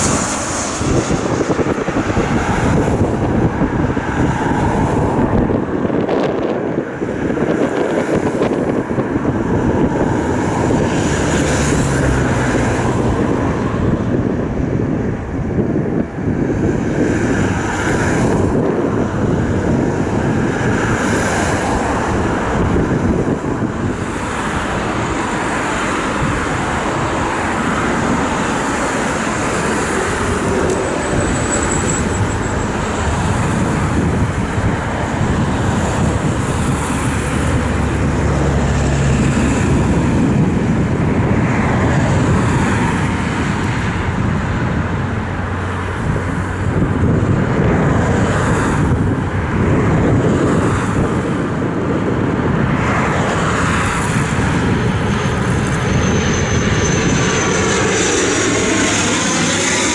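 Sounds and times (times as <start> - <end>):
turboprop aircraft drone: 0.0 - 59.9.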